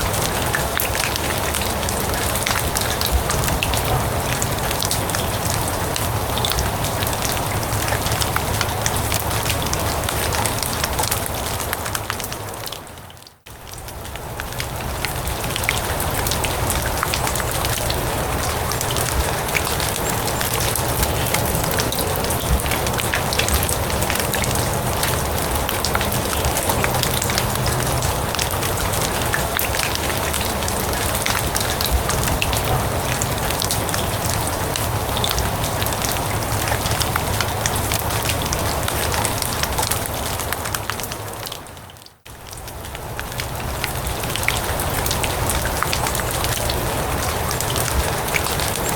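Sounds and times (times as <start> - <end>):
rain on grass and leaves: 0.0 - 48.9.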